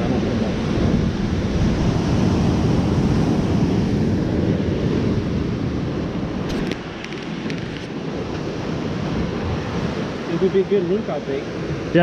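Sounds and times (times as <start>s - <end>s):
ocean surf: 0.0s - 12.0s
wind buffeting microphone: 0.0s - 12.0s.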